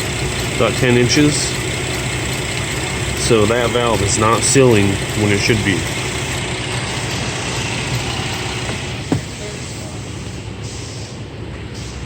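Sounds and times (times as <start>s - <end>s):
car engine idling: 0.0s - 10.4s.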